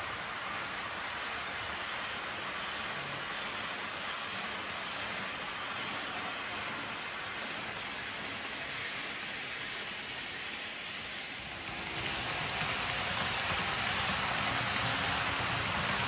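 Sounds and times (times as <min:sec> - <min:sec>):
model train wheels rattling on rails: 0:00.0 - 0:16.0.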